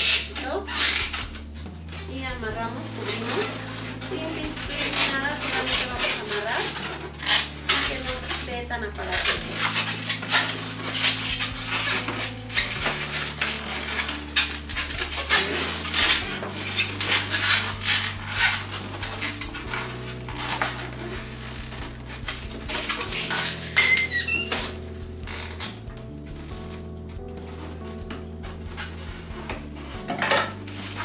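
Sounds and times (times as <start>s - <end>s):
balloons squeaking and rubbing: 0.0s - 31.0s.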